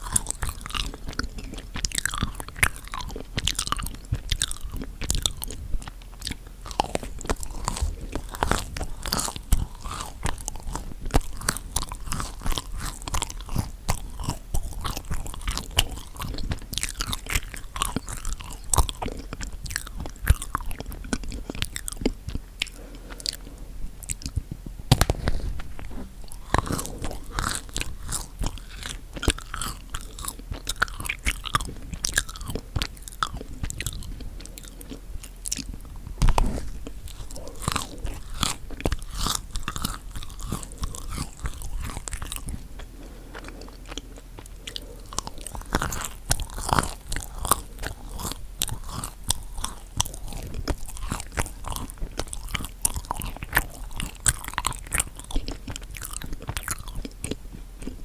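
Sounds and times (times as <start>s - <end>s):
chewing and crunching cookies: 0.0s - 58.0s.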